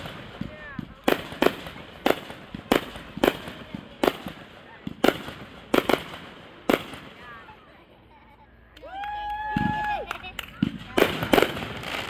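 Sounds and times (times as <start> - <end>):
fireworks bangs: 0.0 - 7.8, 9.3 - 12.0.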